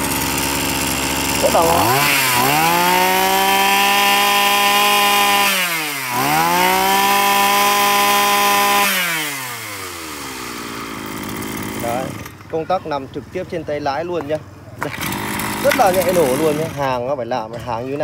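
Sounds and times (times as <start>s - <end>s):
brush cutter engine revving: 0.0s - 18.0s.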